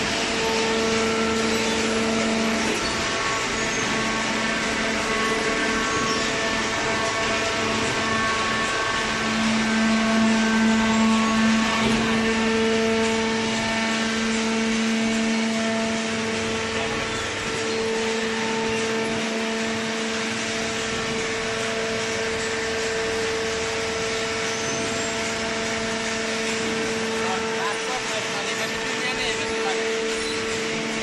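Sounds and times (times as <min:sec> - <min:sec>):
hydraulic pump motor humming: 0:00.0 - 0:31.0.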